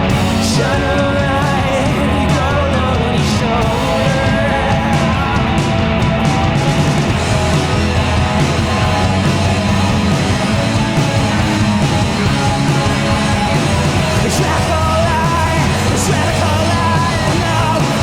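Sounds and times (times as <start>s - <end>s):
live rock band playing: 0.0s - 18.0s
loud electric guitar: 0.0s - 18.0s.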